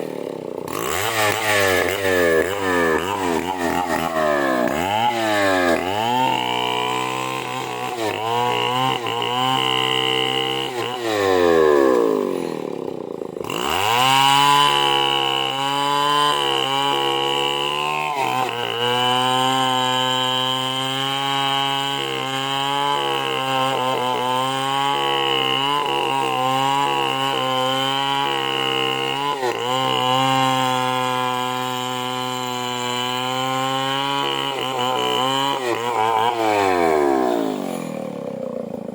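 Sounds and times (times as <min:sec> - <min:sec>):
chainsaw cutting into wood: 0:00.0 - 0:38.9.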